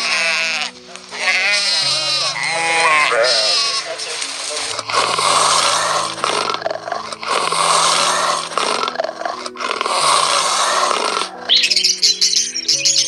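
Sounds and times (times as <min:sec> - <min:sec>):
serval growling: 0:00.0 - 0:11.8.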